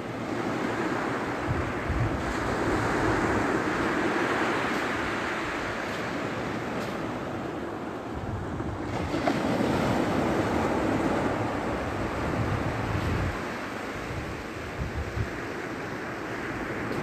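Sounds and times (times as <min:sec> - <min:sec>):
small waves breaking on shore: 0:00.0 - 0:17.0
wind buffeting microphone: 0:01.4 - 0:07.4, 0:08.0 - 0:17.0.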